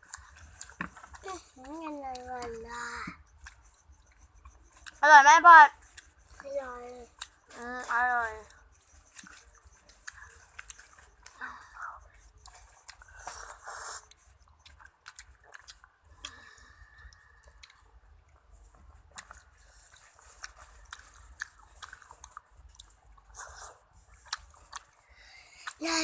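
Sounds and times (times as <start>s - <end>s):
close-up chewing: 0.0s - 25.9s.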